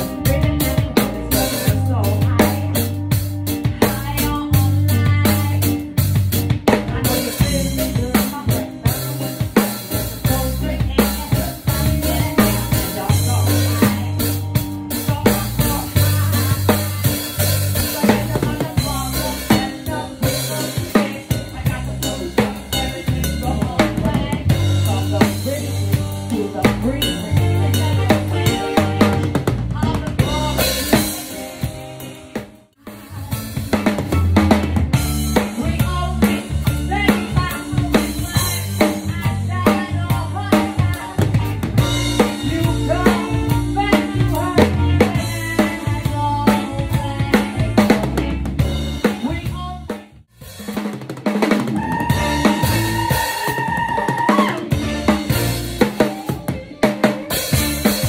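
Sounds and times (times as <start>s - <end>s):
drum kit hits: 0.0s - 58.0s
live band music: 0.0s - 58.0s.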